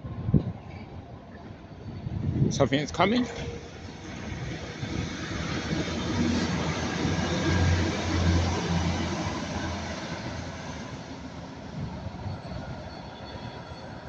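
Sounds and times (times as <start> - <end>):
train passing rumble: 0.0 - 14.0.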